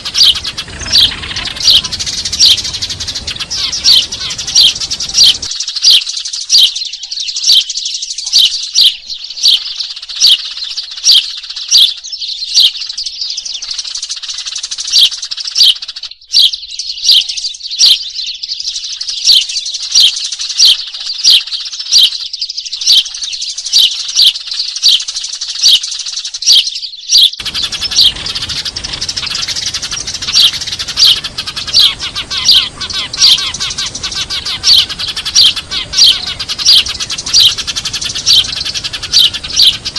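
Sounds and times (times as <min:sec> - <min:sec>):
dense twittering: 0:00.0 - 0:39.9
sparrows chirping: 0:00.0 - 0:39.9.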